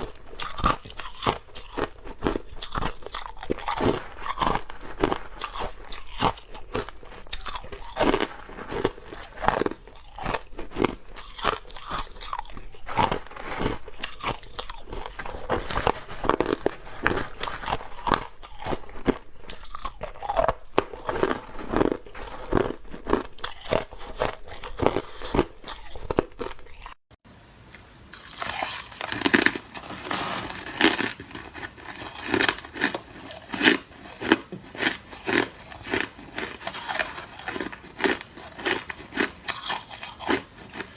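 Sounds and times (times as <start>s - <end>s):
crushed ice being chewed: 0.0s - 27.0s, 27.7s - 40.9s.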